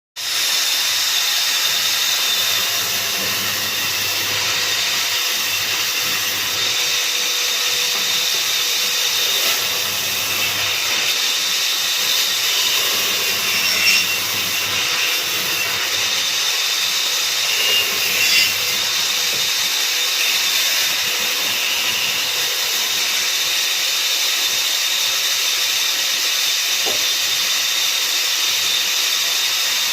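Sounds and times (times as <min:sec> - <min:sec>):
woodworking machine whining: 0:00.2 - 0:29.9.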